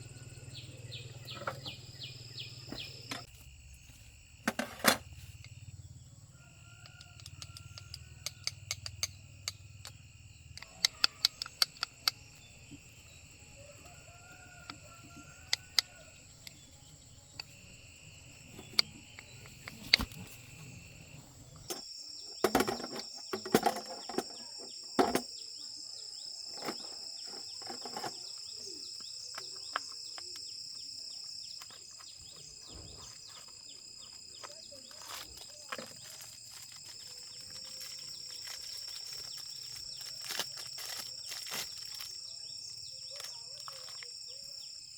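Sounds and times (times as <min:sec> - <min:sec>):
high insect drone: 0:00.0 - 0:44.9.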